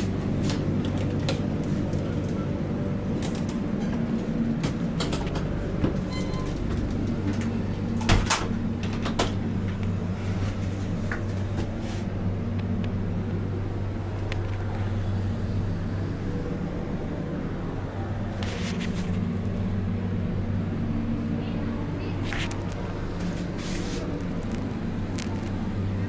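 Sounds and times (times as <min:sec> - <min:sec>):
air-conditioning drone: 0:00.0 - 0:26.0
train coach hum and rumble: 0:00.0 - 0:26.0.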